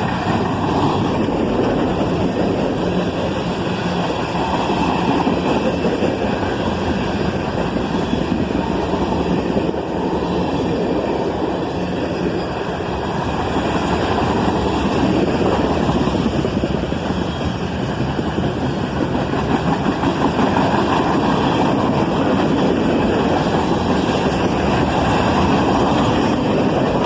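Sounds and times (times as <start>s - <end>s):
freight train rumbling on rails: 0.0s - 27.0s.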